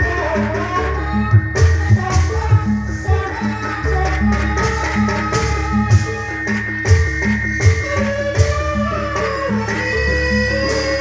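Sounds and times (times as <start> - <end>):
deep drum beats: 0.0 - 9.8
gamelan ensemble melody: 0.0 - 11.0.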